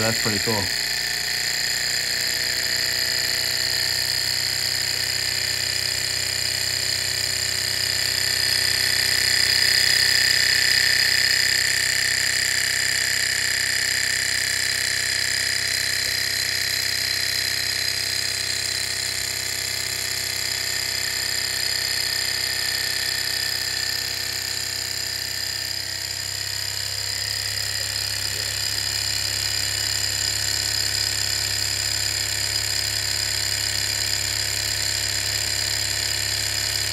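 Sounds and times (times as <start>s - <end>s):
model engine whining and rattling: 0.0s - 36.9s.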